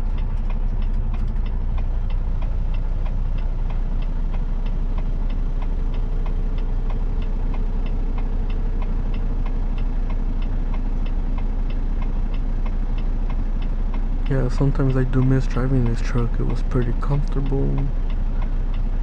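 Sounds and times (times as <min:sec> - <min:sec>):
diesel engine idling: 0:00.0 - 0:19.0
regular ticking: 0:00.0 - 0:19.0.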